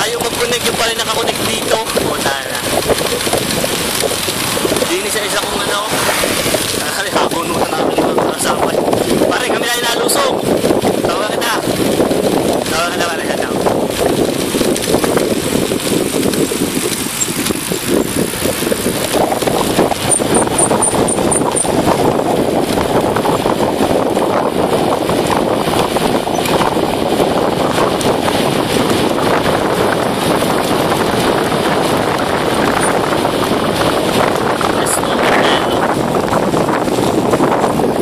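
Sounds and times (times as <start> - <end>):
bicycle tyre and road noise: 0.0 - 38.0
wind rushing on microphone: 0.0 - 38.0.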